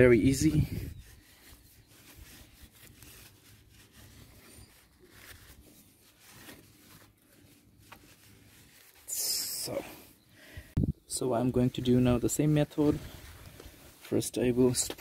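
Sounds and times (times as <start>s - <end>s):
tissue paper rubbing and rustling: 0.0s - 9.7s, 11.4s - 15.0s.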